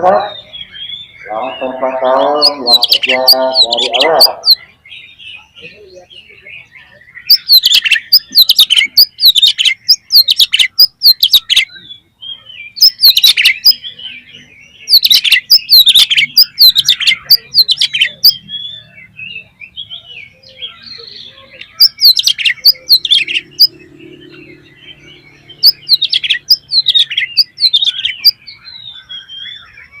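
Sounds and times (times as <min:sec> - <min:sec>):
bird singing whistles and chirps: 0:00.2 - 0:30.0.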